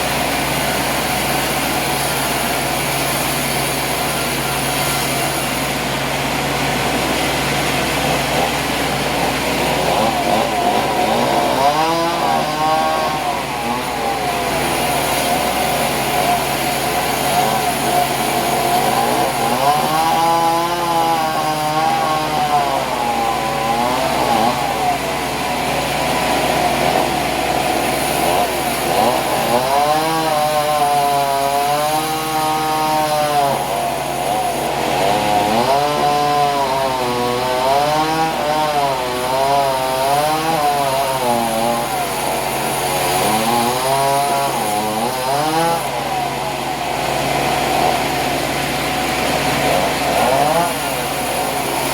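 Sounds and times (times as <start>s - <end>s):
gasoline saw cutting wood: 0.0s - 51.9s.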